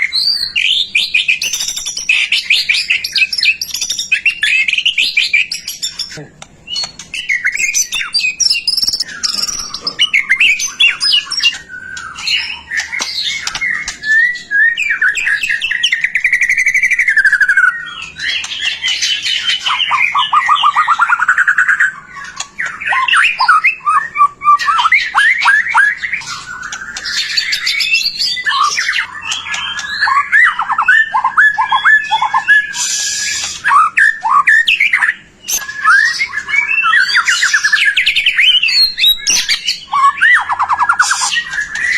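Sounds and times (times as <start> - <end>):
bird singing whistles and trills: 0.0 - 41.9.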